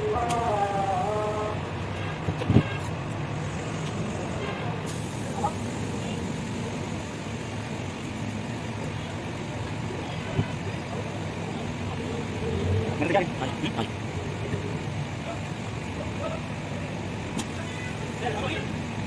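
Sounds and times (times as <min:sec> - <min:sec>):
faint voices: 0:00.0 - 0:19.0.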